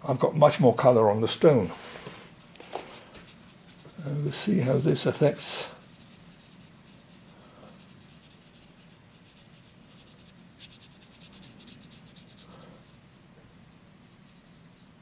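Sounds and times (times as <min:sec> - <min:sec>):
wet brush scrubbing on paper: 0:01.7 - 0:15.0.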